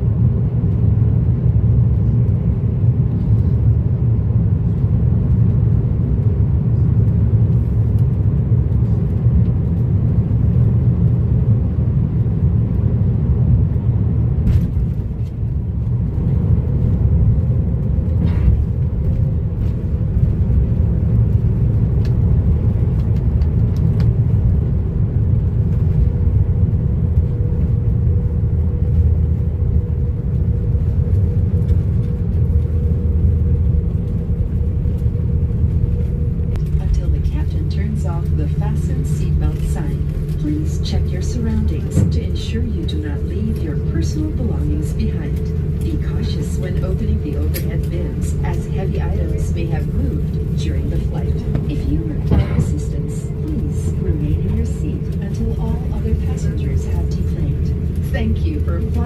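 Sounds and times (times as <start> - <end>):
airliner cabin rumble on ground: 0.0 - 59.0.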